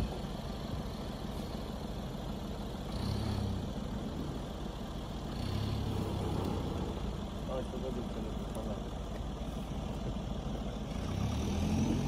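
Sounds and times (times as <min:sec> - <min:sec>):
car engine under load: 0:00.0 - 0:12.0.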